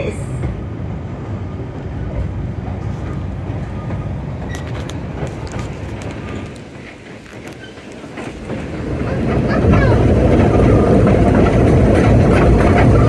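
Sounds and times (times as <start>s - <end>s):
rails clicking and rattling: 0.0s - 13.0s
train wheels rumbling: 0.0s - 13.0s.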